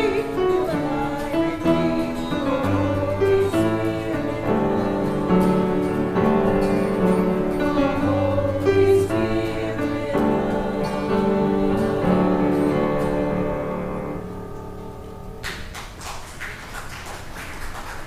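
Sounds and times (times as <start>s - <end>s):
church choir singing: 0.0s - 14.8s
instrumental accompaniment: 0.0s - 16.0s.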